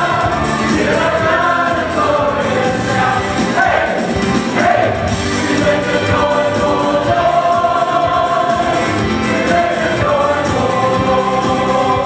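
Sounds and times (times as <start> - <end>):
mixed choir singing: 0.0 - 12.0.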